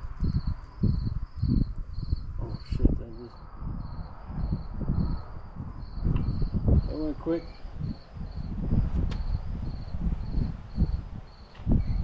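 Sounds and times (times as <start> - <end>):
low rumbles and thuds: 0.0 - 7.0, 7.7 - 12.0
crickets chirping: 0.0 - 12.0.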